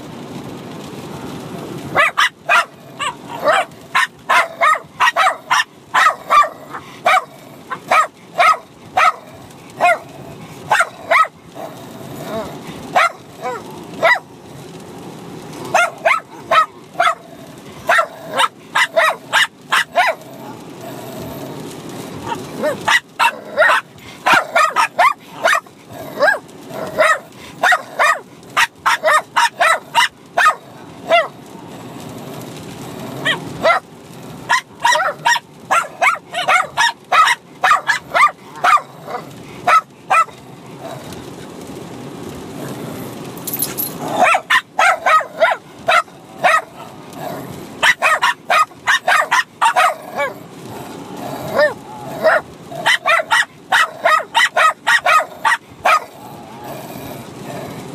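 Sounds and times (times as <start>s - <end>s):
dogs barking: 1.9s - 14.3s, 15.6s - 20.7s, 21.8s - 31.5s, 33.2s - 41.2s, 43.8s - 50.6s, 51.2s - 56.2s.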